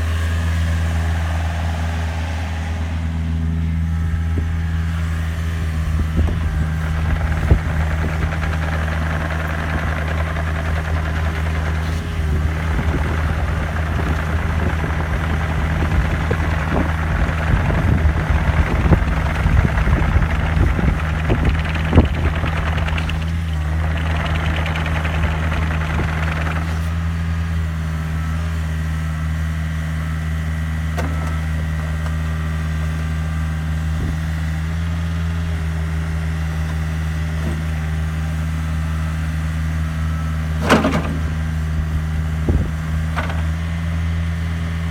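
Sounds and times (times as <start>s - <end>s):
diesel excavator engine running: 0.0s - 44.9s
hydraulic whine: 0.0s - 44.9s.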